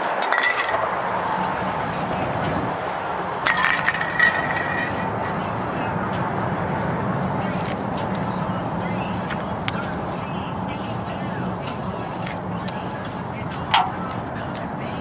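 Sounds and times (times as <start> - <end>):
spray cans clinking: 0.0 - 2.8, 3.4 - 15.0
freeway traffic noise: 0.0 - 15.0.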